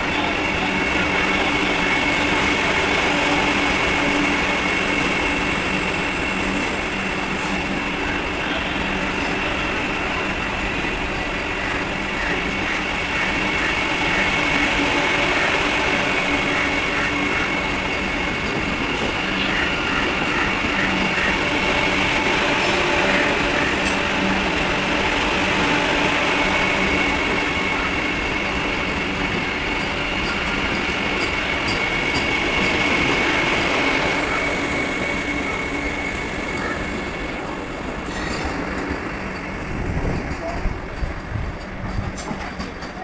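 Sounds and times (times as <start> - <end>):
train running noise: 0.0 - 43.0.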